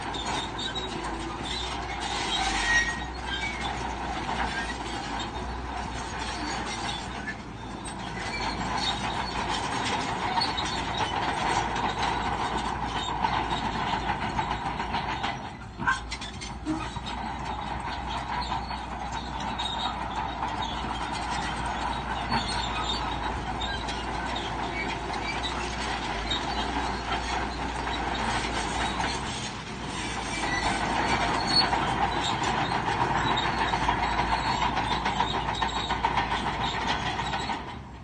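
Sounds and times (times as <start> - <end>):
bulldozer engine running: 0.0 - 38.0
steel tracks clattering and squealing: 0.0 - 38.0.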